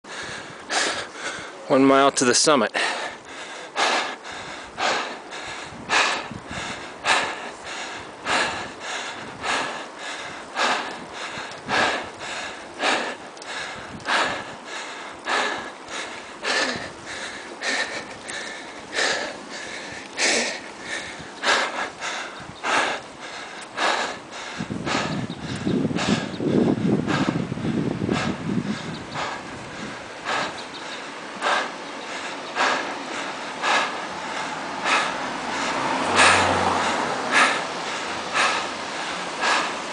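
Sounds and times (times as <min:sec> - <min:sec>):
cyclist breathing hard: 0:00.0 - 0:39.9.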